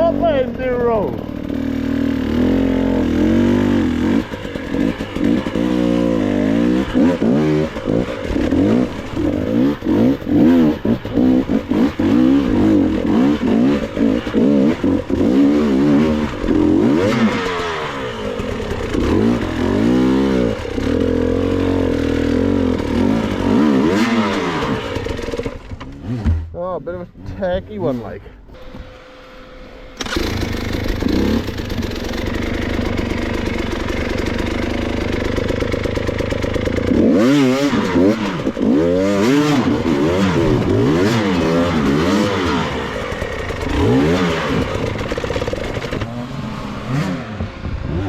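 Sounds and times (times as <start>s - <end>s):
dirt bike engine revving: 0.0s - 26.6s, 28.6s - 48.0s.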